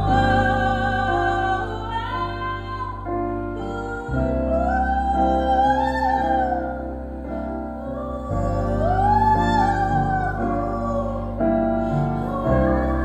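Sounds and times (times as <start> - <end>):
deep bass note: 0.0 - 13.0
keyboard chords: 0.0 - 13.0.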